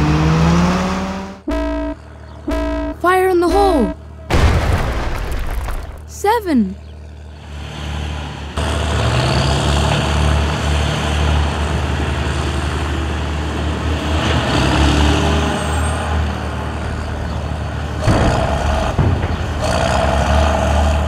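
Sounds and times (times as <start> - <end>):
wheel loader engine droning: 0.0 - 4.6, 5.7 - 21.0.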